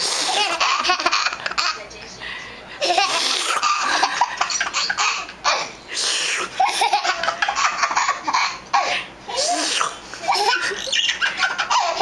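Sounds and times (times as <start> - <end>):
baby laughing: 0.1 - 1.8, 2.8 - 5.8, 6.5 - 12.0.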